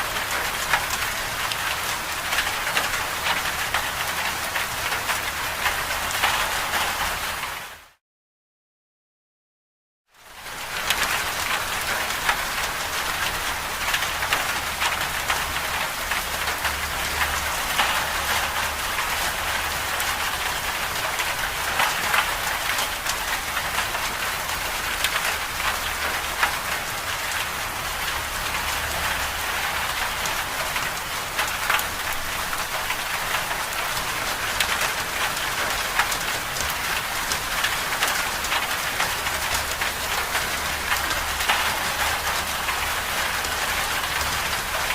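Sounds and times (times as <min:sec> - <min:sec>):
heavy rain: 0:00.0 - 0:08.0, 0:10.1 - 0:44.9.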